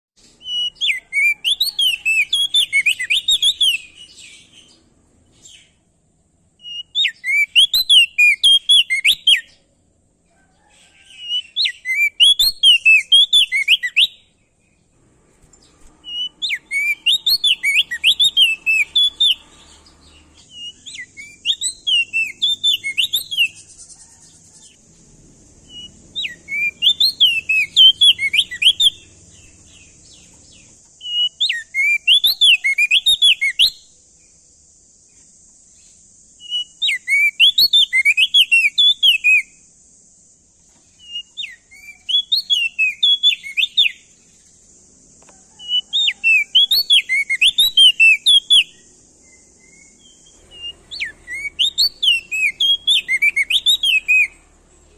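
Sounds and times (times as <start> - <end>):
songbird chirping: 0.2 - 54.9
steady high hiss: 10.8 - 54.9.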